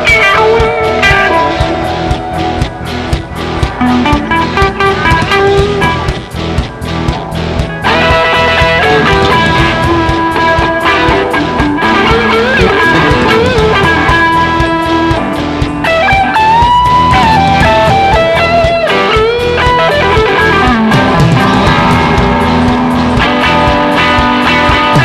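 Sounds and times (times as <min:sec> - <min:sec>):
lead guitar bending notes: 0:00.0 - 0:25.0
live rock band playing: 0:00.0 - 0:25.0.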